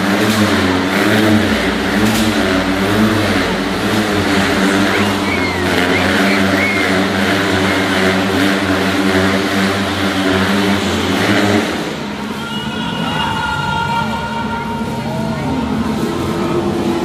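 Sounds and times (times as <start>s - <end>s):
motorcycle engines revving: 0.0s - 13.3s, 14.0s - 17.0s.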